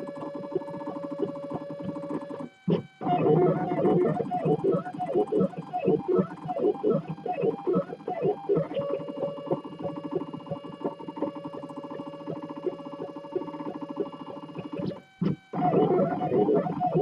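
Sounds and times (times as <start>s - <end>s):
rapid even ticking: 0.0s - 17.0s.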